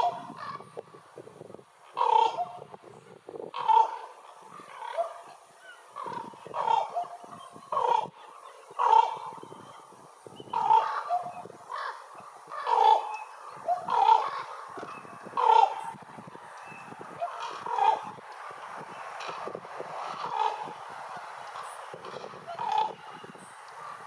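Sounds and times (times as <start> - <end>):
ravens calling: 0.0 - 24.0.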